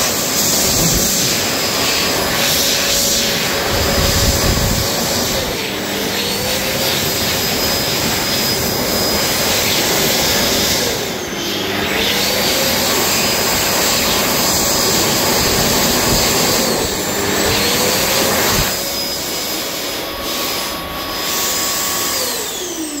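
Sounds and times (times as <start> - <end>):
electric hand dryer blowing: 0.0 - 23.0.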